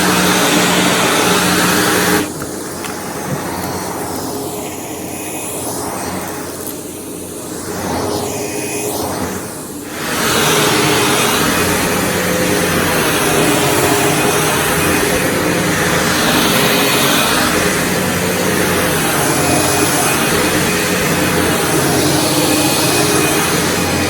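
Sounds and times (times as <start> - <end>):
upright vacuum cleaner running over carpet: 0.0 - 24.0.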